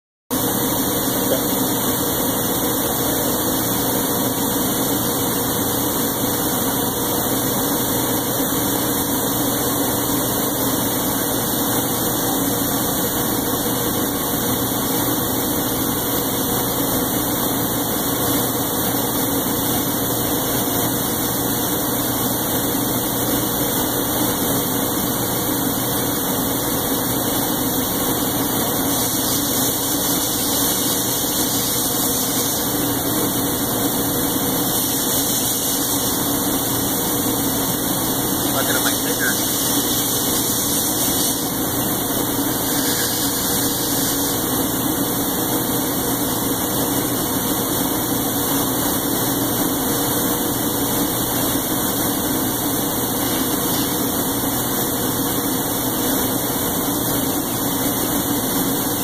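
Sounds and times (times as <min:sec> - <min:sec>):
machine running with low hum: 0:00.3 - 0:59.0.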